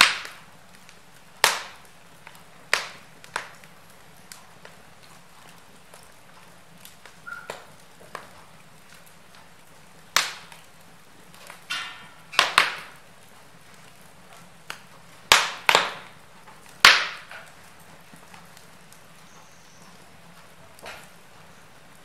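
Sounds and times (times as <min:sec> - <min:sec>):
fire hissing: 0:00.0 - 0:22.0
wood fire crackling and popping: 0:00.0 - 0:22.0.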